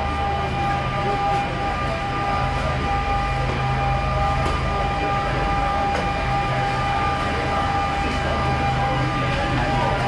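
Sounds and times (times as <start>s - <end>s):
high-pitched whine: 0.0s - 10.0s
machinery drone: 0.0s - 10.0s.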